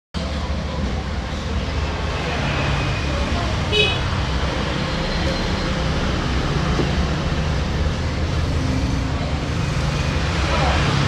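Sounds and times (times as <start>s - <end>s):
road traffic rumble: 0.2s - 11.0s.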